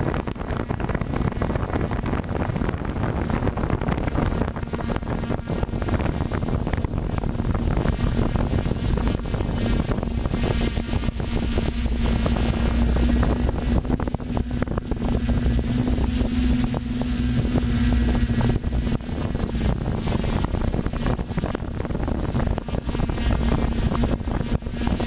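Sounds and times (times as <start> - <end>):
drone motors humming: 0.0 - 25.0
wind buffeting microphone: 0.0 - 25.0.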